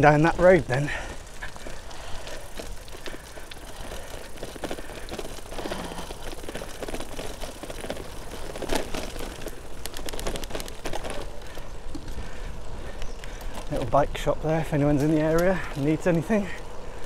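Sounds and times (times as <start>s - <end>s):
bicycle ticking: 0.0s - 17.0s
road noise rumble: 0.0s - 17.0s.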